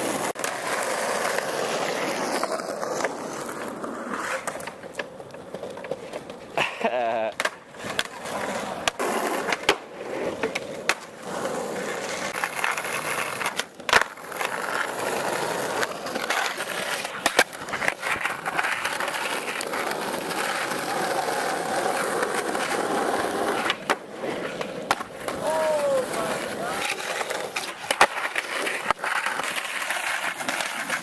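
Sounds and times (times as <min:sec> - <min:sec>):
skateboard clacks: 0:00.0 - 0:31.0
skateboard wheels rolling: 0:00.0 - 0:31.0.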